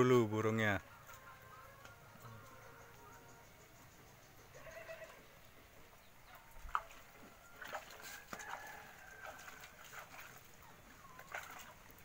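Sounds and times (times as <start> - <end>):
faint bird calls and clucks: 1.0 - 12.0.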